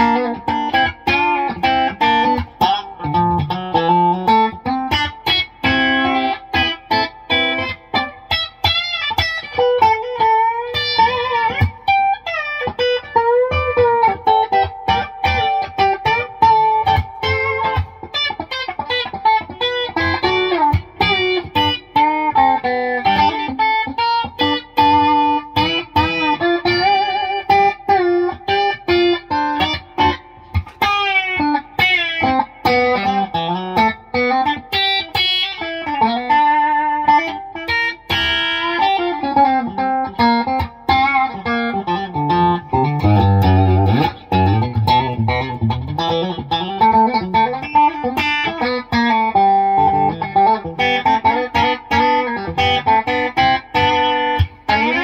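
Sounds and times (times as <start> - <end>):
electric guitar country licks: 0.0 - 55.0.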